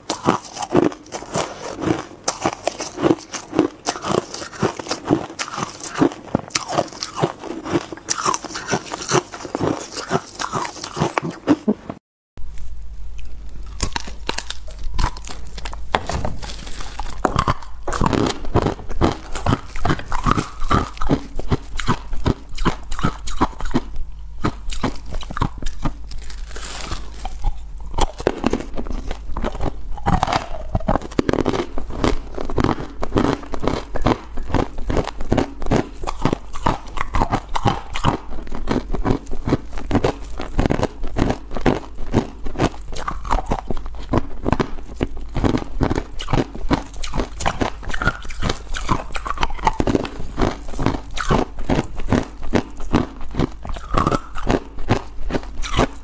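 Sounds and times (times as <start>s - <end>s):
chewing hard frozen food: 0.0s - 12.0s, 12.6s - 56.0s.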